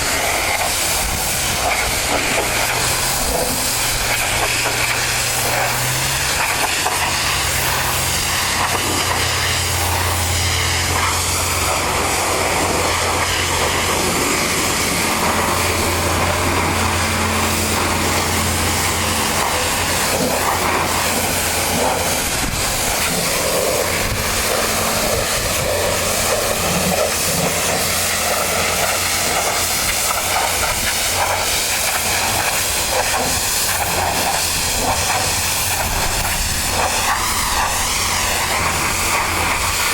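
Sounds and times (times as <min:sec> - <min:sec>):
machine humming: 0:00.0 - 0:39.9
pressure washer water jet hissing: 0:00.0 - 0:39.9.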